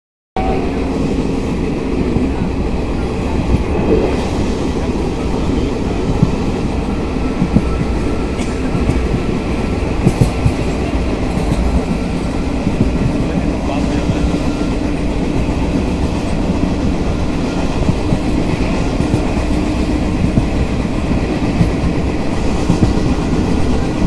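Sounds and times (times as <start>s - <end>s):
train wheels rumbling on rail: 0.4s - 24.0s.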